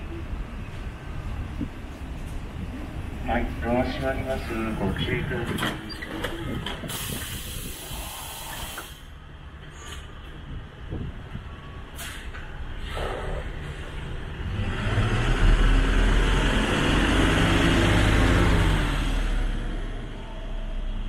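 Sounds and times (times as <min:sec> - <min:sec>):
bus engine: 0:00.0 - 0:21.0.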